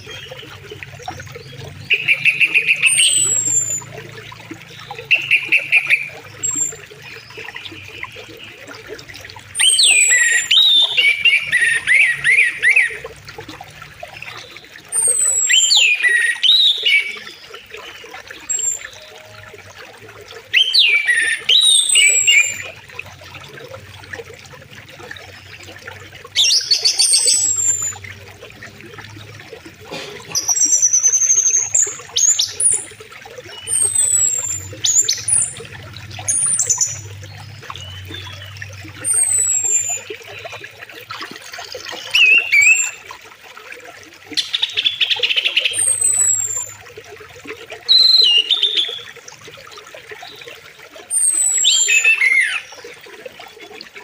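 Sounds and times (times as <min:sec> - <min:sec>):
songbirds singing: 0:00.0 - 0:43.2, 0:44.2 - 0:47.0, 0:47.6 - 0:53.8
river flowing: 0:00.0 - 0:54.0.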